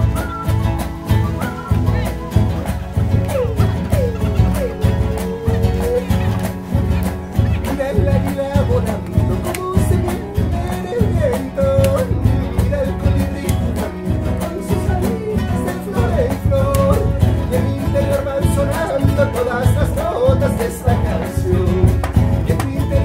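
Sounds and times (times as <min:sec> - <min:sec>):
song with guitar and singing: 0:00.0 - 0:23.0.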